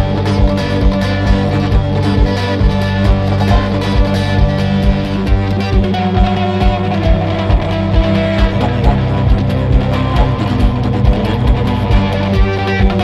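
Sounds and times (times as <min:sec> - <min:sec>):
guitar music over a steady beat: 0:00.0 - 0:13.0.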